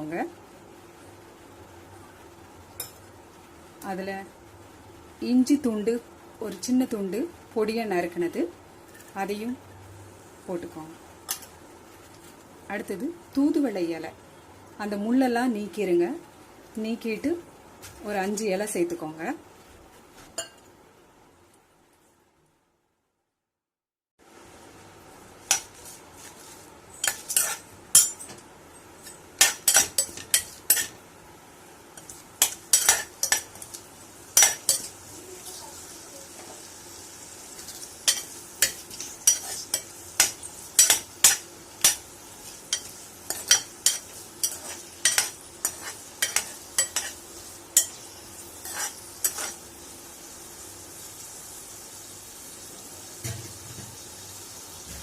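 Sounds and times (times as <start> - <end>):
steady sizzle: 0.0 - 22.6, 24.2 - 55.0.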